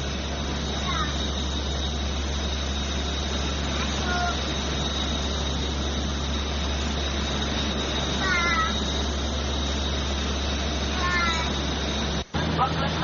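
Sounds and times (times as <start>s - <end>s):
airliner cabin drone: 0.0s - 13.0s
high-pitched whine: 0.0s - 13.0s.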